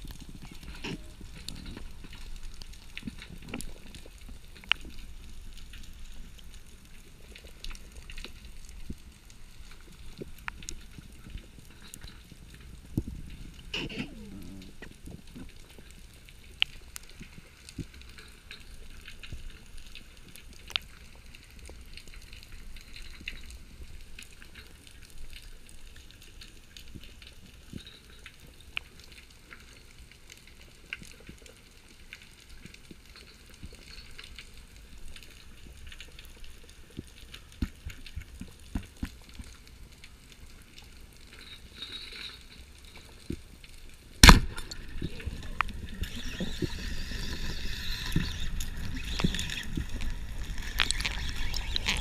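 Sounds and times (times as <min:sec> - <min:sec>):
crackle of clicks and pops: 0:00.0 - 0:52.0
low rumble of water: 0:00.0 - 0:52.0.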